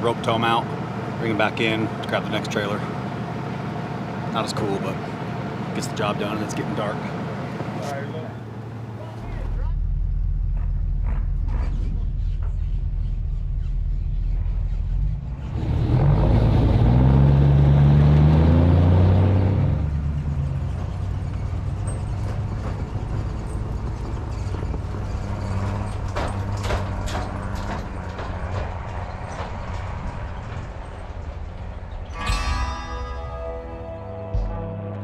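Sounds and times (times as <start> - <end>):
heavy truck engine revving: 0.0 - 35.0.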